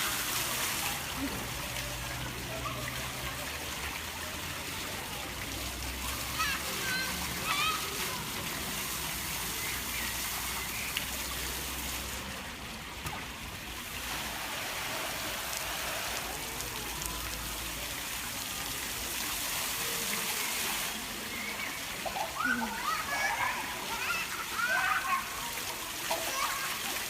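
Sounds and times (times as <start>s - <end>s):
fountain jets splashing: 0.0s - 27.0s.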